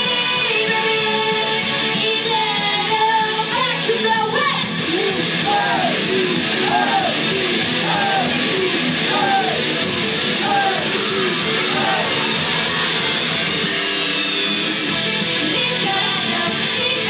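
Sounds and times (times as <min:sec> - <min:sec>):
live rock song with guitar: 0:00.0 - 0:17.0.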